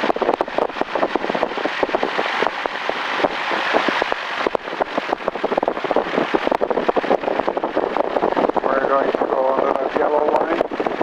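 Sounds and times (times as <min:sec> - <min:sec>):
light plane engine and propeller: 0:00.0 - 0:11.0.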